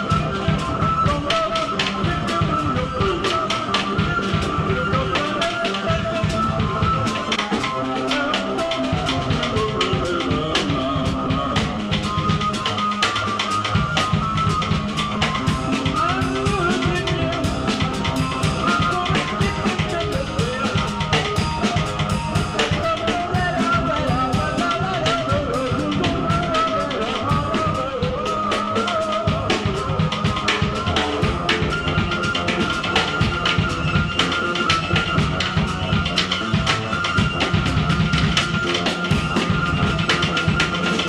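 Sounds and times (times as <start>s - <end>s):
fast busy drumming: 0.0s - 41.0s.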